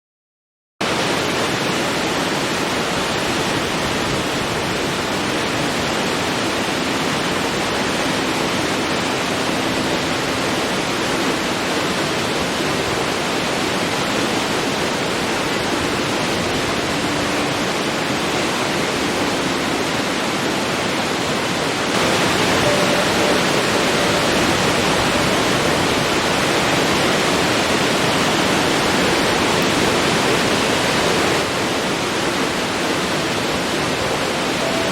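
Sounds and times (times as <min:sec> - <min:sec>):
waterfall rushing and splashing: 0:00.8 - 0:34.9.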